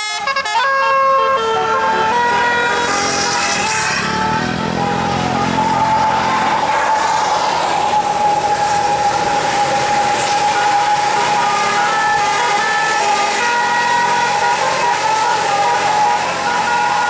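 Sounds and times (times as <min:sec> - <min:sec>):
bus multi-trumpet horn tune: 0:00.0 - 0:17.0.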